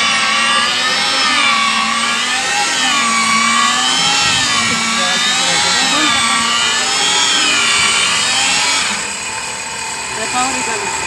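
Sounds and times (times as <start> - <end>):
electric motor running: 0.0 - 11.0.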